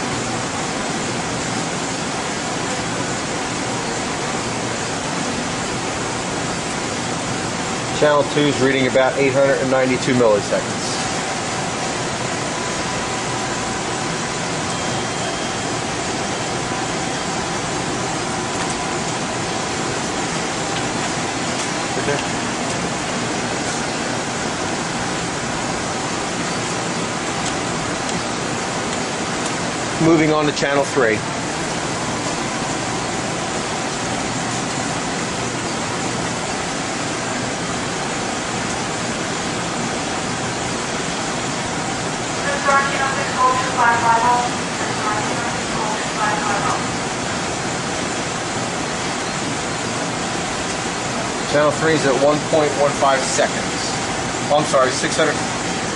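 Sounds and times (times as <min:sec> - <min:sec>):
faint steady whining tones: 0:00.0 - 0:55.9
ventilation rushing hiss: 0:00.0 - 0:55.9.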